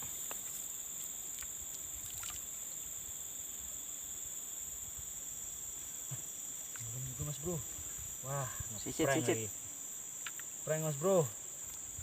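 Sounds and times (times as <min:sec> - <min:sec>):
crickets and insects trilling: 0:00.0 - 0:12.0
faint low hiss: 0:00.0 - 0:12.0.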